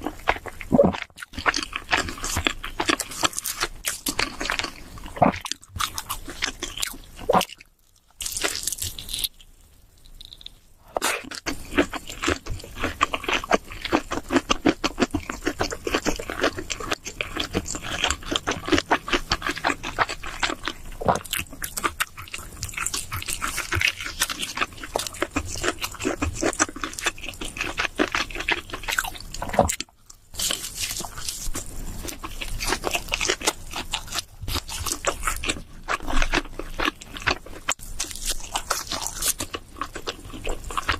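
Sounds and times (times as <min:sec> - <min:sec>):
close chewing and mouth smacks: 0:00.0 - 0:40.9.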